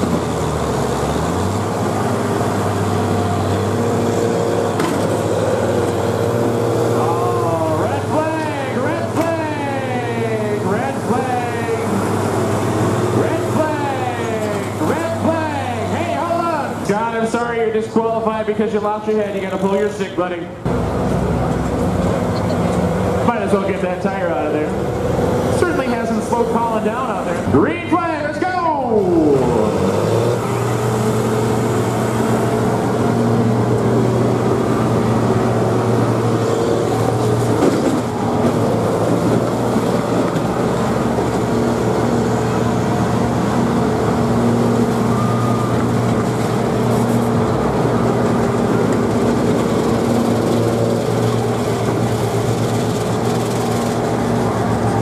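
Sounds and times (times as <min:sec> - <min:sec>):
combine harvester engines droning: 0:00.0 - 0:55.0.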